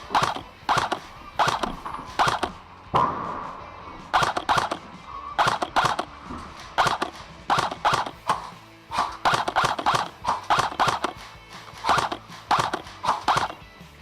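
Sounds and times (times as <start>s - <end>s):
airsoft rifle shots: 0.0s - 3.2s, 4.1s - 13.6s.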